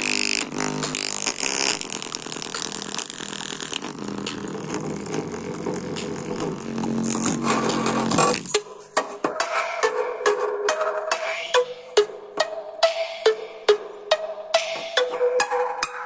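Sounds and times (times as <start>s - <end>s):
music through small speaker: 0.0s - 16.0s.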